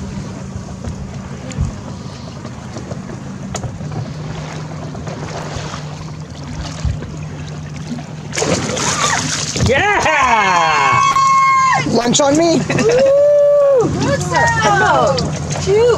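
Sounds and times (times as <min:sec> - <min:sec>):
boat motor idling: 0:00.0 - 0:15.9
water noise: 0:00.0 - 0:15.9
wind: 0:00.0 - 0:15.9.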